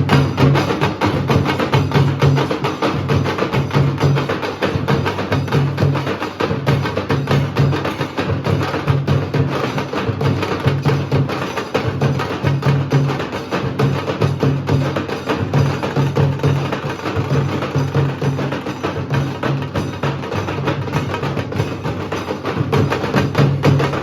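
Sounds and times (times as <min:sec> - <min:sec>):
deep drum beats: 0:00.0 - 0:24.0.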